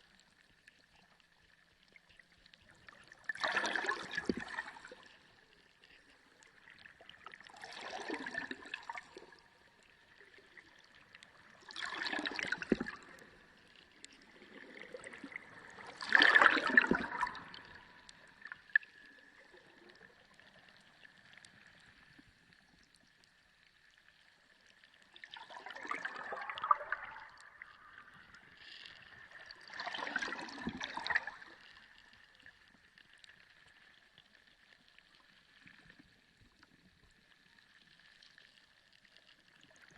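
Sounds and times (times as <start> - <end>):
underwater water surges: 0.0 - 39.9.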